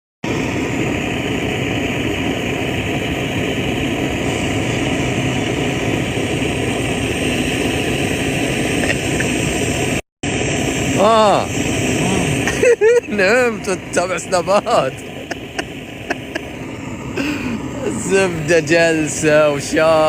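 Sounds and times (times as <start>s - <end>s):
steady engine-like running noise: 0.2s - 20.0s.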